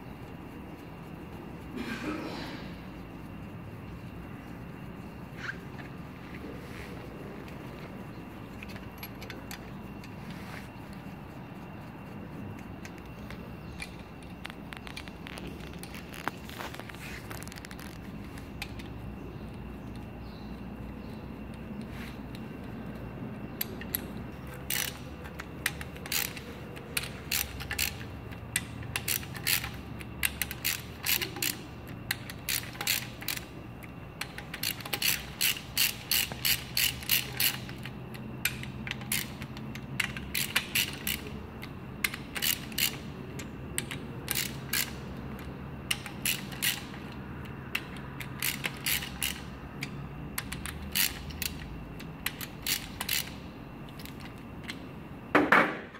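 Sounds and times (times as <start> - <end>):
ratchet wrench clicking: 7.0 - 11.2, 12.6 - 20.4, 21.0 - 54.9.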